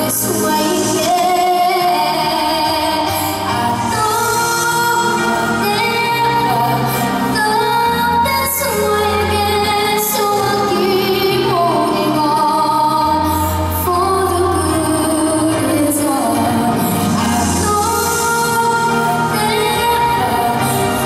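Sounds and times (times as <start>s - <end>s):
woman singing a ballad: 0.0s - 21.0s.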